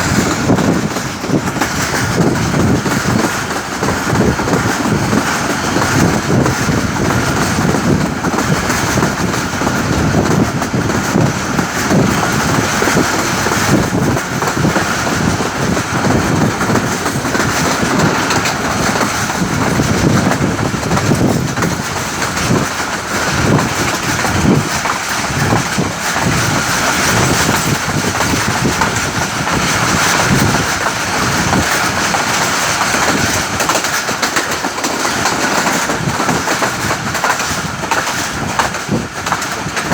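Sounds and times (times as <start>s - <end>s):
clacks over rail joints: 0.0s - 39.9s
train wheels rumbling on rails: 0.0s - 39.9s.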